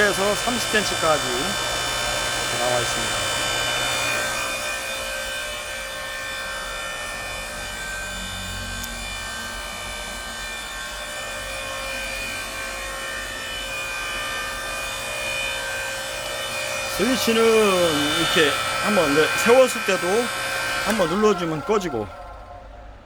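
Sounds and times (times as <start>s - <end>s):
electric motor humming: 0.0s - 23.0s.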